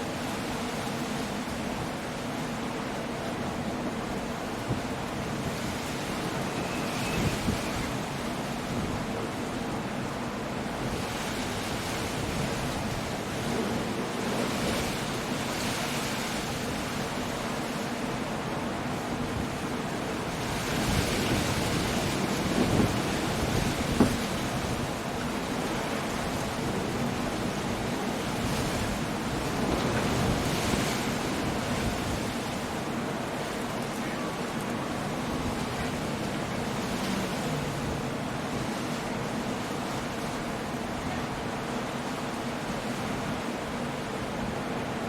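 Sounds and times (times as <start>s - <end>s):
waves breaking: 0.0s - 45.0s
wind: 0.0s - 45.0s.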